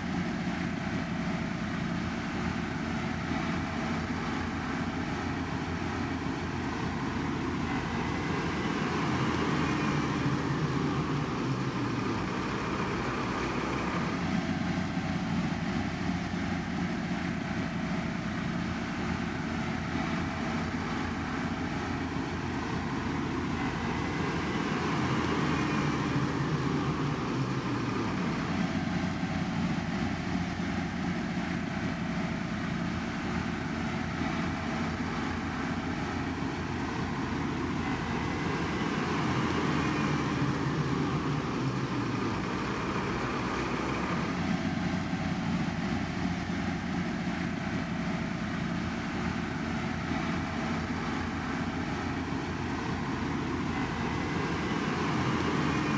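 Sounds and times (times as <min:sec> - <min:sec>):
heavy machinery engines running: 0:00.0 - 0:55.9.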